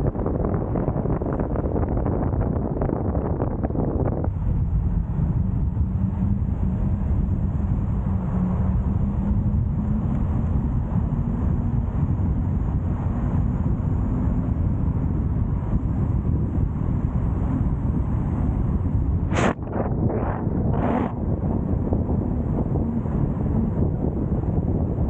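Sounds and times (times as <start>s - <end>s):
faint car engine hum: 0.0s - 25.0s
road and wind rumble: 0.0s - 25.0s.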